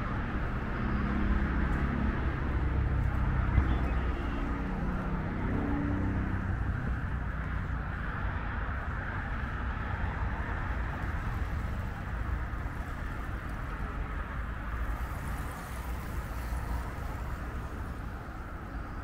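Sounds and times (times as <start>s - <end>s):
distant highway traffic: 0.0s - 19.0s.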